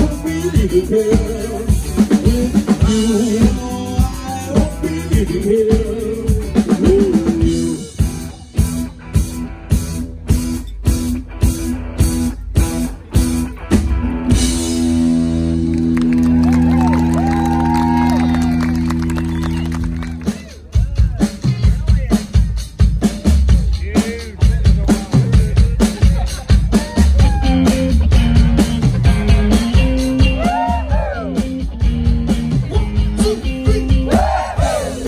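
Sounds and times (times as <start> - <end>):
bending lead guitar melody: 0.0 - 20.4, 25.8 - 35.0
live rock band playing: 0.0 - 35.0.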